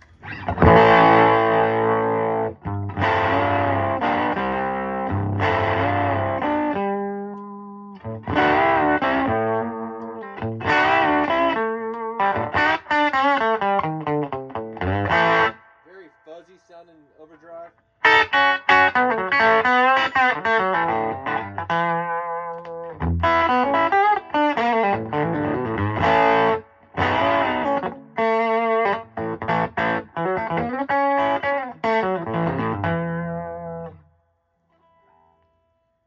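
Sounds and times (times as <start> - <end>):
electric guitar chords and notes: 0.0 - 15.8, 18.0 - 34.0.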